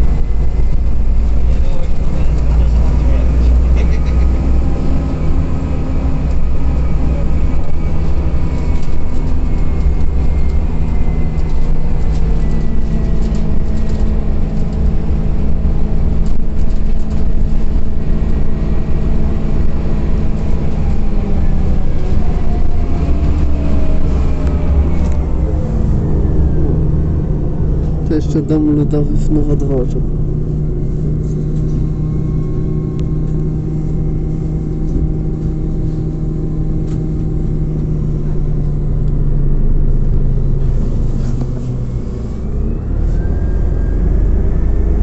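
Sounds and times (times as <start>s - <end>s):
bus engine rumble: 0.0s - 45.0s
road noise: 0.0s - 45.0s
whining drivetrain: 0.0s - 45.0s.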